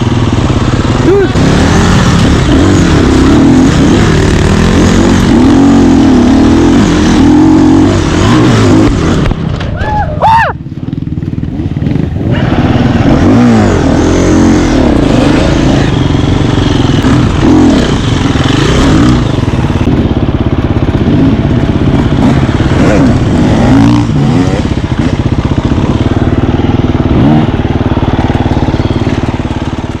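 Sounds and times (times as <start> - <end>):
dirt bike engine revving: 0.0 - 9.5, 10.8 - 30.0.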